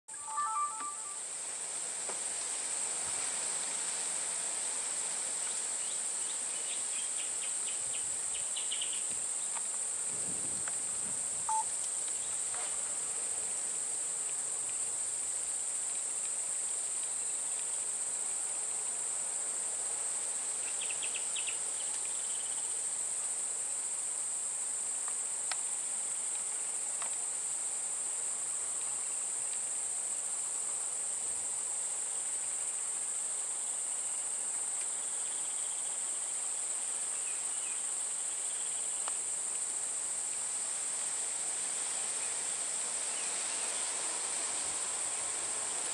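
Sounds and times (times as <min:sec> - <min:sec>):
insects droning: 0:00.2 - 0:45.9.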